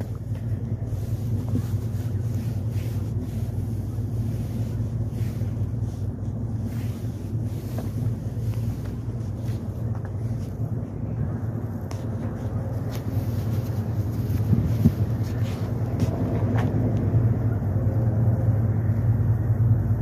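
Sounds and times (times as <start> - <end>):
locomotive engine humming: 0.0 - 20.0
wind on microphone: 0.0 - 20.0.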